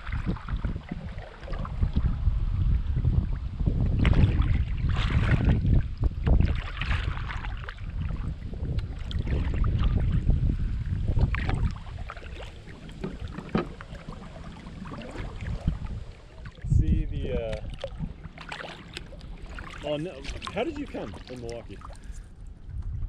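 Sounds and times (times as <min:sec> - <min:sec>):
paddle splashes: 0:00.0 - 0:02.2, 0:03.2 - 0:22.4
water lapping at kayak: 0:00.0 - 0:23.0
wind buffeting microphone: 0:00.0 - 0:23.0.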